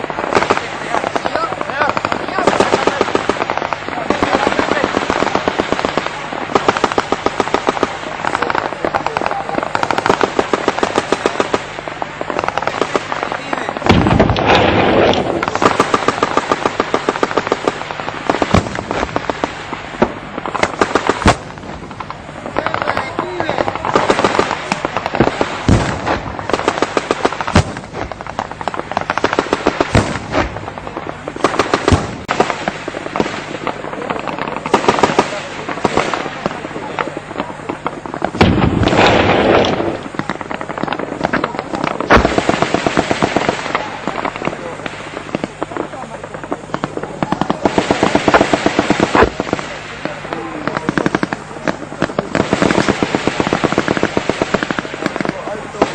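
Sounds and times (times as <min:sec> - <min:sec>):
gunfire: 0:00.0 - 0:55.9
heavy explosion rumbling: 0:00.0 - 0:55.9.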